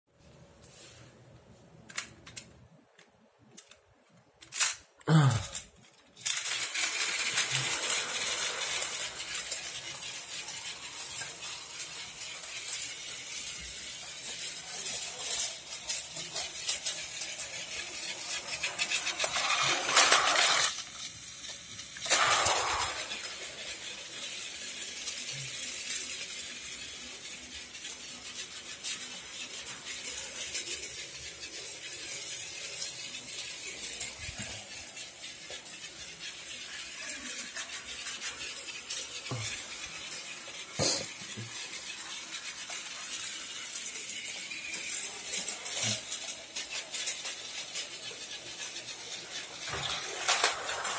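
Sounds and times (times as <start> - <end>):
toy trains clattering on track: 1.9 - 50.9.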